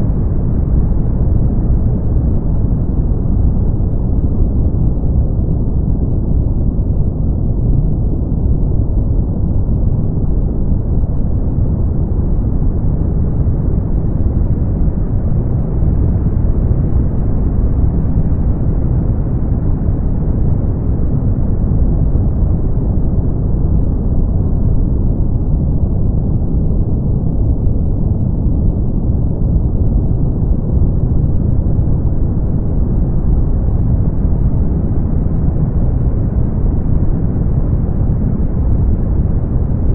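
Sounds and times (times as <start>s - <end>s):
deep rumbling brown noise: 0.0s - 39.9s.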